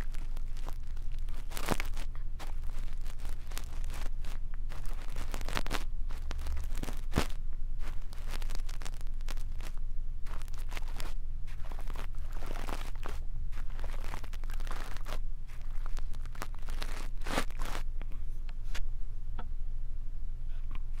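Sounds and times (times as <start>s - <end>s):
brush scratching a microphone: 0.0s - 17.9s
low hum: 0.0s - 21.0s.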